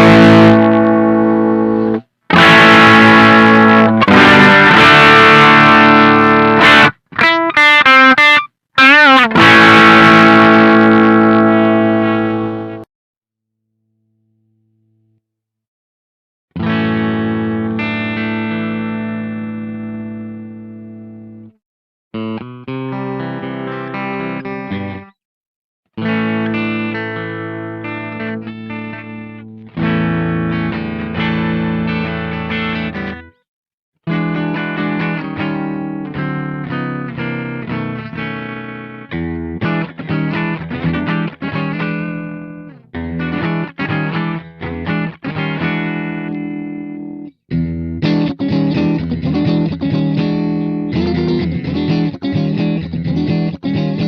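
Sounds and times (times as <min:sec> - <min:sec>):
distorted electric guitar chords: 0:00.0 - 0:12.9, 0:16.6 - 0:21.5, 0:22.2 - 0:25.2, 0:26.0 - 0:33.4, 0:34.1 - 0:54.0
picked guitar notes: 0:00.0 - 0:12.9, 0:16.6 - 0:21.6, 0:22.2 - 0:25.2, 0:26.0 - 0:33.4, 0:34.0 - 0:54.0.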